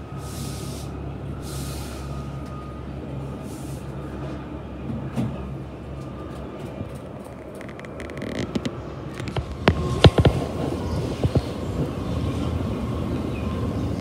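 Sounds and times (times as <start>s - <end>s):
helicopter flying overhead: 0.9s - 14.0s.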